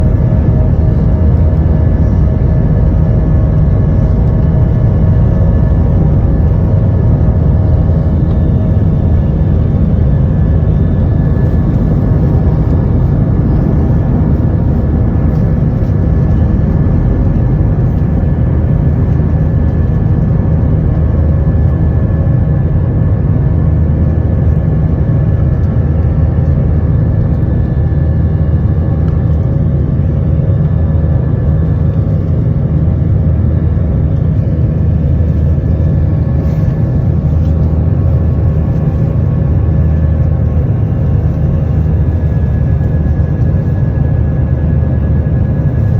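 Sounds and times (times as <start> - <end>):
engine fan tones: 0.0 - 45.9
jet engines rumbling in cabin: 0.0 - 45.9.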